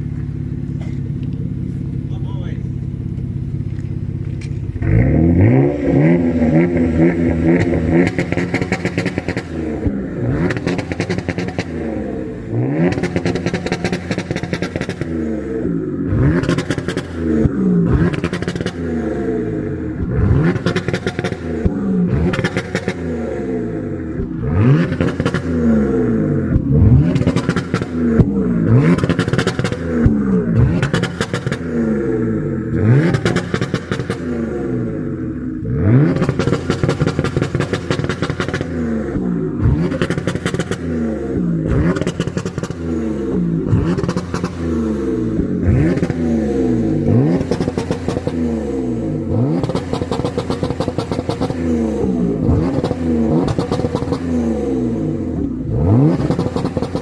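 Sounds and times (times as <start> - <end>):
car engine revving: 0.0 - 57.0
exhaust crackling: 0.0 - 57.0.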